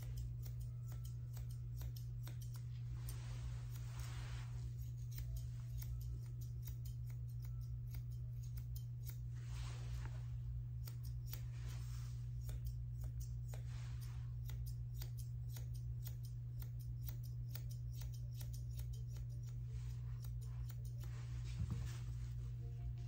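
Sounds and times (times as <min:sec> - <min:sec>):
grooming shears snipping: 0:00.0 - 0:22.5
steady low hum: 0:00.0 - 0:23.0.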